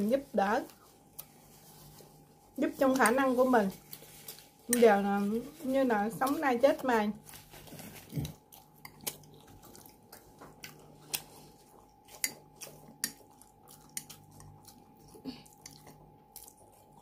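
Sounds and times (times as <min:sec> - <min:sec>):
person chewing crunchy bread: 0:00.7 - 0:04.7, 0:06.2 - 0:17.0.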